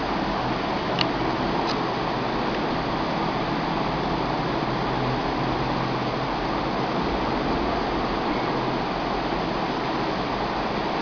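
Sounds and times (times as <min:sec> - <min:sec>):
low hum: 0:00.0 - 0:11.0
steady background hiss: 0:00.0 - 0:11.0.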